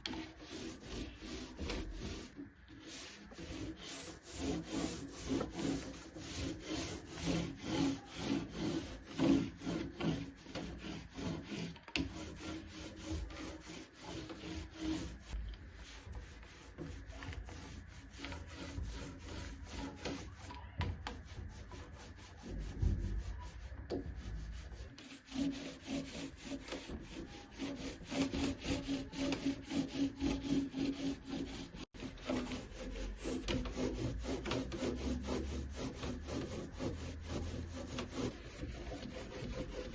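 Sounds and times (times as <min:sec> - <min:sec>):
rubbing on wood: 0:00.0 - 0:39.9.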